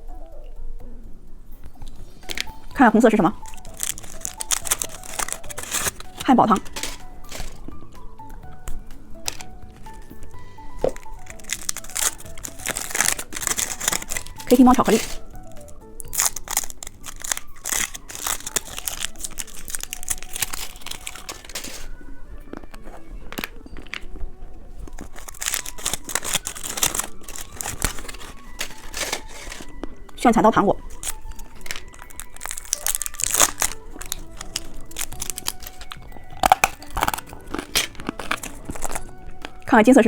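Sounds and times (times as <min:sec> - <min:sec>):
candy wrapper crinkling and tearing: 0:01.8 - 0:08.1, 0:09.2 - 0:30.2, 0:30.8 - 0:39.7.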